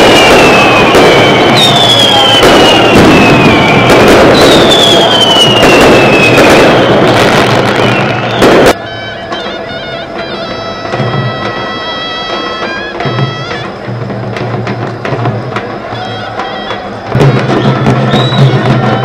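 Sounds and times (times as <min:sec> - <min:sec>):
falling firework whistles: 0:00.0 - 0:19.0
fireworks crackling and banging: 0:00.0 - 0:19.0.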